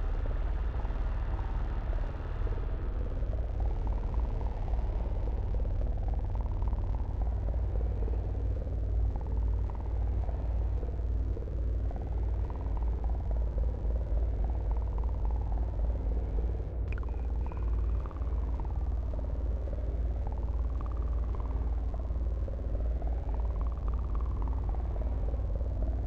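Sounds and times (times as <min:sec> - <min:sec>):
deep rumble: 0:00.0 - 0:26.0.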